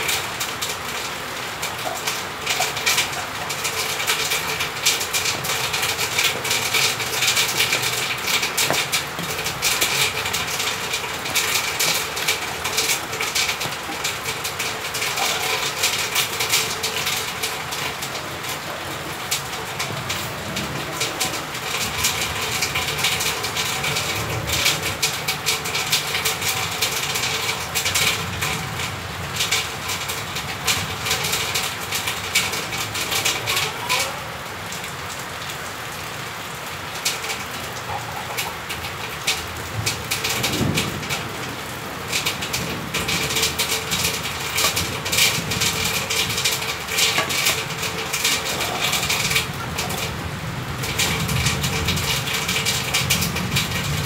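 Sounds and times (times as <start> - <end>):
rain pattering on hard surface: 0.0 - 54.0.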